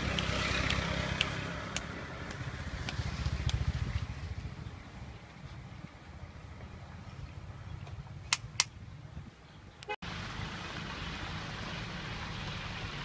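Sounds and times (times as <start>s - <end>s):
small engine rumbling: 0.0s - 13.0s.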